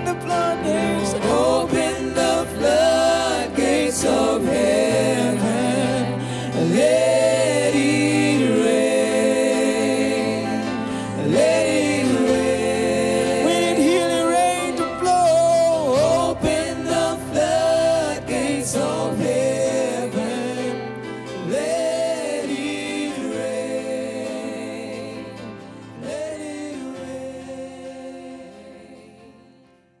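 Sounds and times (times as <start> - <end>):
gospel singers holding notes: 0.0 - 30.0.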